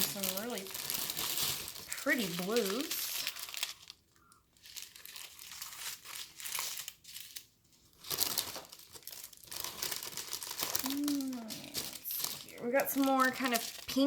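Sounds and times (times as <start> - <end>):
plastic packets crinkling: 0.0 - 14.0.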